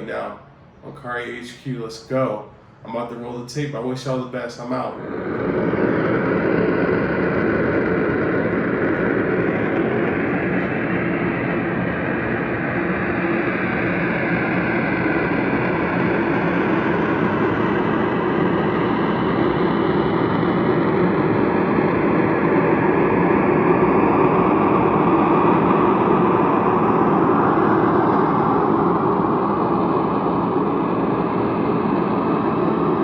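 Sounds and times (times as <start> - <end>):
loud hissing drone: 0.0 - 33.0.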